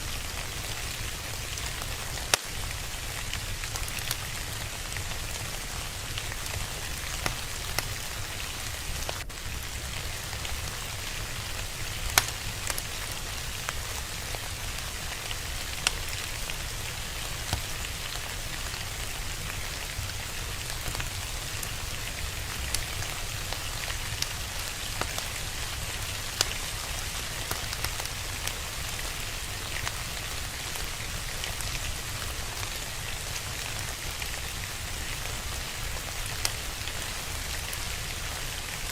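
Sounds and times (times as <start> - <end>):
steady rain: 0.0 - 38.9
wood fire crackling: 0.0 - 38.9.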